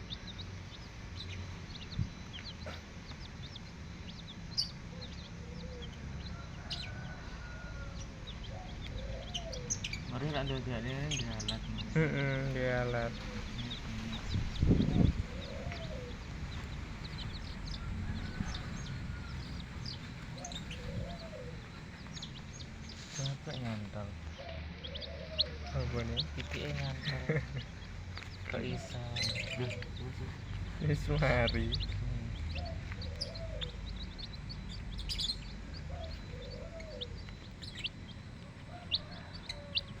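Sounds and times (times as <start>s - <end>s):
birds chirping: 0.0s - 40.0s
low steady rumble: 0.0s - 40.0s
low rising and falling bird call: 4.1s - 10.6s, 11.2s - 40.0s.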